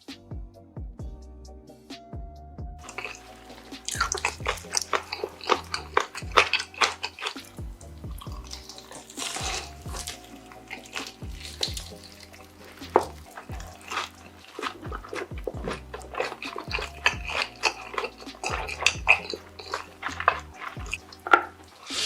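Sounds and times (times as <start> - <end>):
background music: 0.0 - 22.0
person chewing loudly: 2.8 - 22.0.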